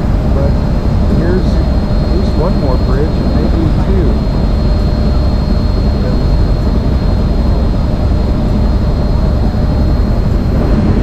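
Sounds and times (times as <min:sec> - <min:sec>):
boat engine drone: 0:00.0 - 0:11.0
wind on microphone: 0:00.0 - 0:11.0.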